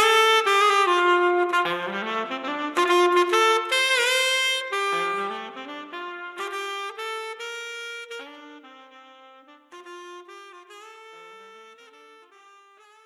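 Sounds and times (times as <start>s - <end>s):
solo saxophone jazz melody: 0.0s - 13.0s.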